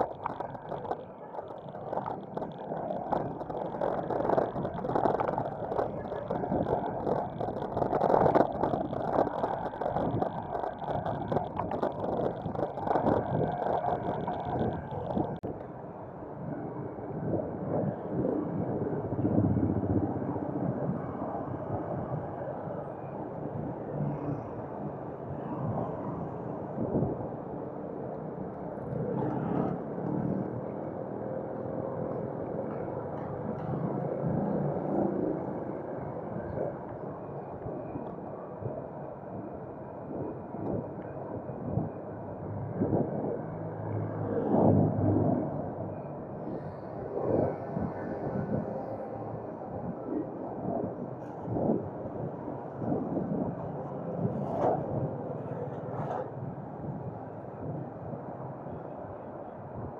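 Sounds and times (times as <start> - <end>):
road noise: 0.0 - 59.9
wind rushing over microphone: 0.0 - 59.9.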